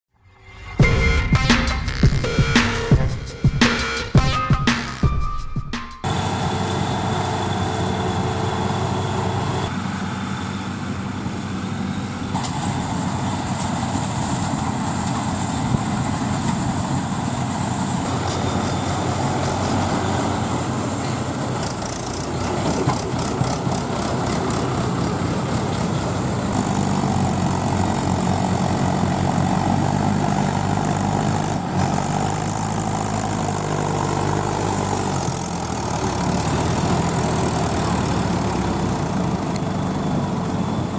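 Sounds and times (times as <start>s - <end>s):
diesel tractor engine running: 6.1s - 40.9s.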